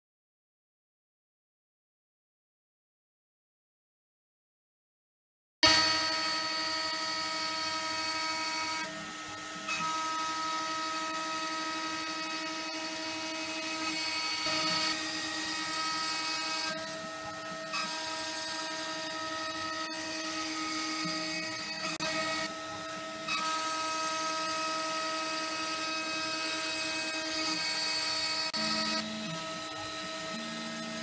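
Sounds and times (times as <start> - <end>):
milling machine spindle whine: 5.6 - 31.0.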